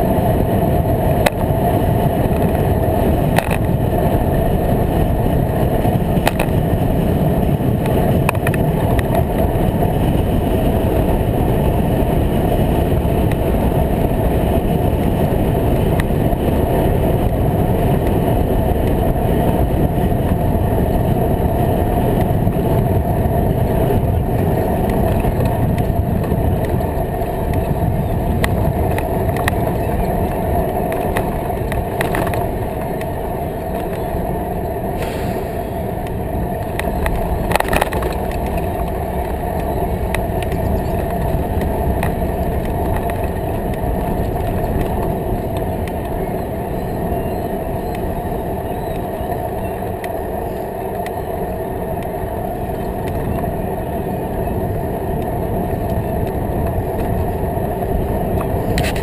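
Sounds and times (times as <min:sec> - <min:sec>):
bicycle tyre rumble: 0:00.0 - 0:59.0
wind rush: 0:00.0 - 0:59.0.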